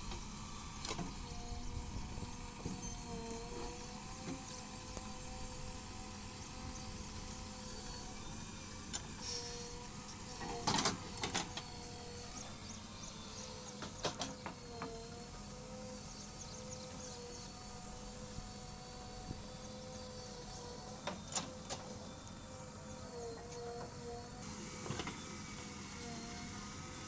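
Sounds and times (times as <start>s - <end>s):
engine and hydraulic whine: 0.0s - 27.0s.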